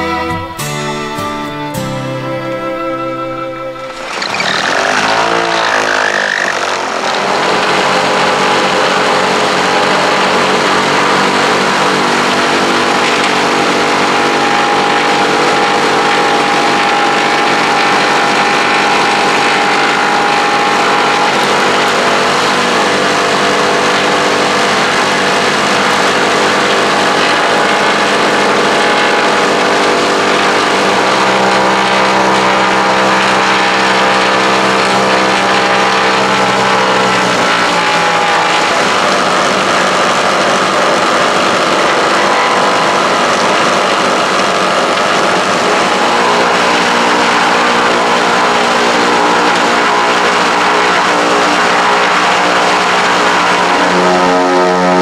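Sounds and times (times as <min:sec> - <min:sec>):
propeller engines droning: 0:00.0 - 0:55.0.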